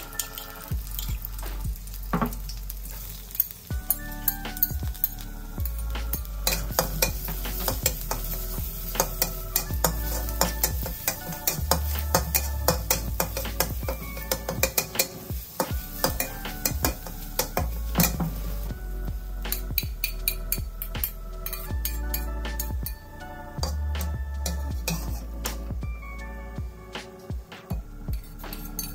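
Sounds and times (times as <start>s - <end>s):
spatula scraping and clinking wok: 0.0s - 18.8s, 19.5s - 25.7s, 28.1s - 28.9s
garlic sizzling in hot oil: 0.0s - 25.8s
soft background music: 0.0s - 28.9s.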